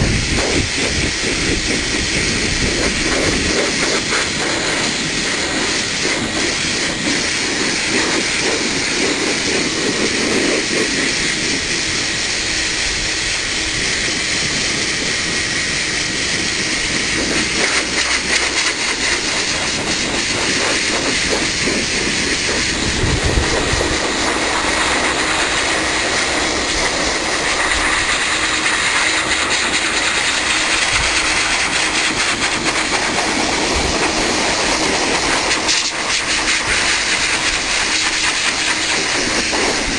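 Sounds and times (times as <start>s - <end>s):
dog dryer blowing air: 0.0s - 39.9s.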